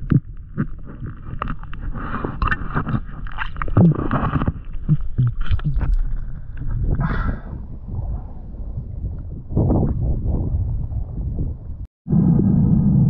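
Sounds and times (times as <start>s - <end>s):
underwater rumble and bubbling: 0.0s - 13.0s.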